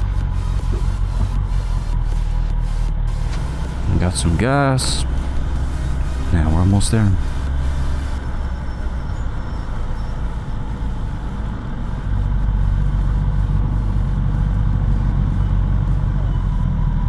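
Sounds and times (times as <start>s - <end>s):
motorcycle engine hum: 0.0s - 17.0s
road traffic: 0.0s - 17.0s.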